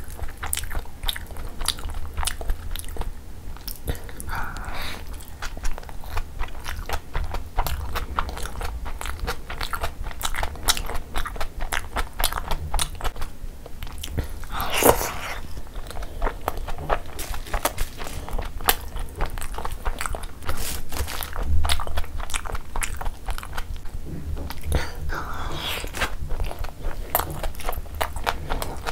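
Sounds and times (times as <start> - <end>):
wet chewing mouth sounds: 0.0 - 28.9.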